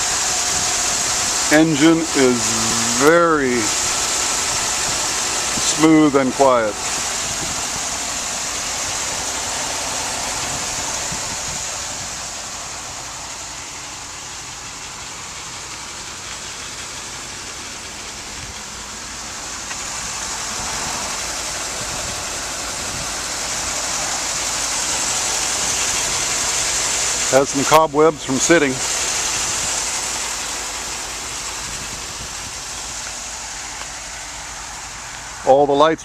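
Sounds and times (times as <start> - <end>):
bus engine idling: 0.0 - 36.0
steady high hiss: 0.0 - 36.0.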